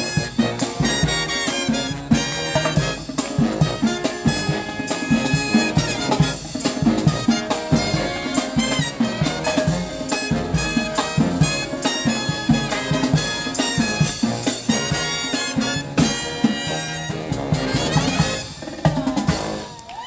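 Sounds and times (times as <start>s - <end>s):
brass band with drums: 0.0s - 20.0s.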